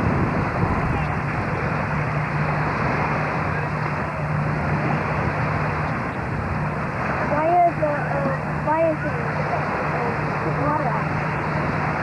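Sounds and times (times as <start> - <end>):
motor engine drone: 0.0 - 12.0
rushing wind or water: 0.0 - 12.0.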